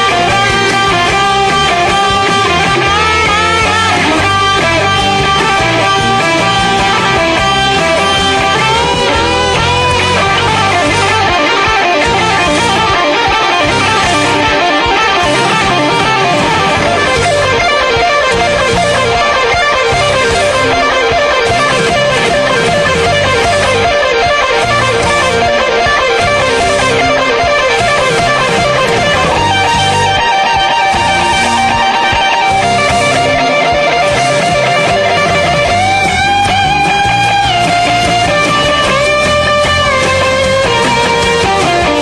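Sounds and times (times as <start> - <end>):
rock music with electric guitar: 0.0 - 42.0.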